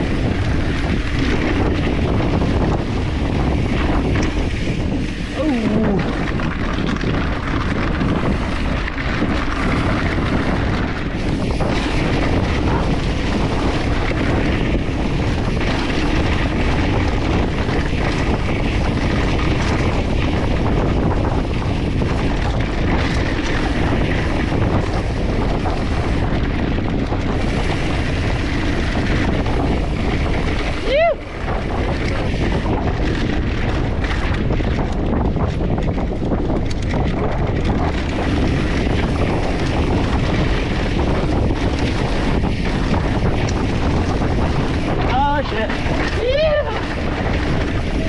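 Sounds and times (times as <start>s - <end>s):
bike rattling on dirt trail: 0.0s - 48.0s
wind buffeting microphone: 0.0s - 48.0s.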